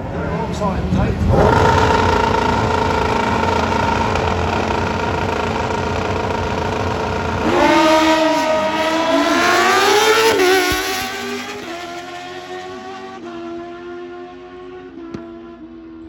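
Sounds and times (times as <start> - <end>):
drag racing motorcycle accelerating: 0.1 - 16.0.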